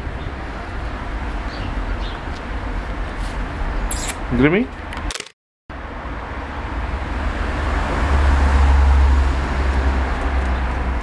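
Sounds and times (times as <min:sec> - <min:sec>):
road vehicle passing rumble: 0:00.0 - 0:04.9, 0:05.7 - 0:11.0.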